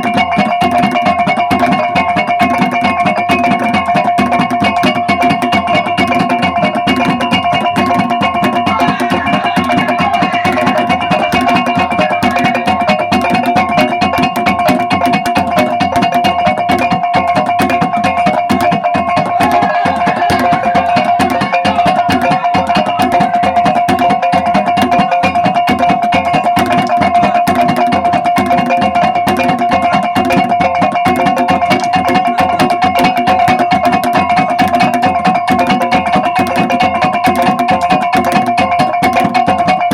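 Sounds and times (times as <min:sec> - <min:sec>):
fast drum strokes: 0:00.0 - 0:39.9.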